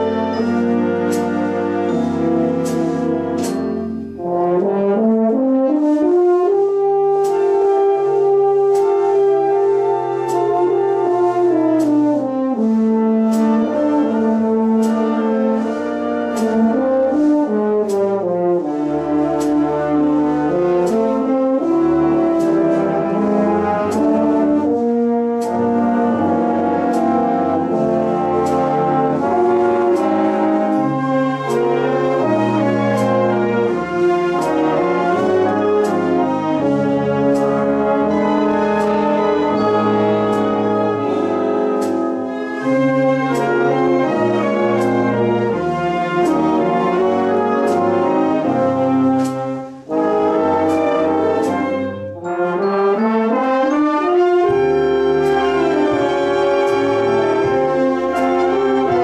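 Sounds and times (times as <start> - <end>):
light percussion tapping beat: 0.0 - 4.7, 6.8 - 59.0
brass chords of horns and trombones: 0.0 - 59.0.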